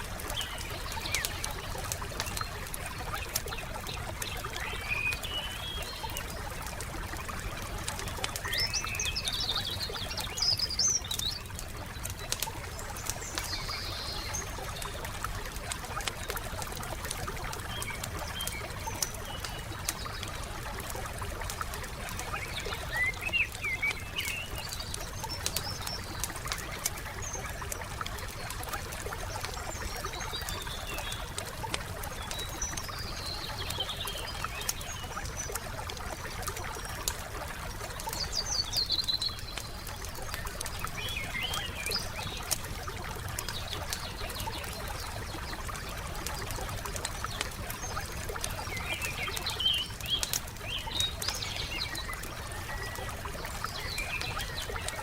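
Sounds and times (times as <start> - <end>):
campfire crackling and popping: 0.0 - 55.0
forest birds chirping: 0.0 - 55.0.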